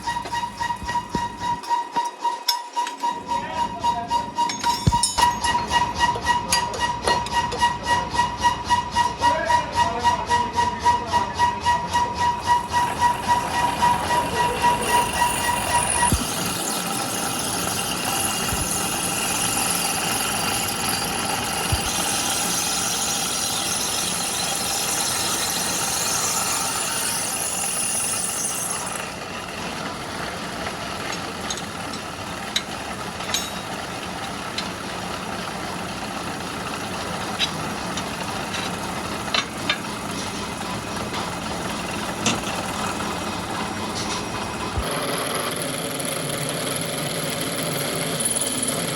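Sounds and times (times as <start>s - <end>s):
machinery hum: 0.0s - 27.4s, 28.1s - 48.9s.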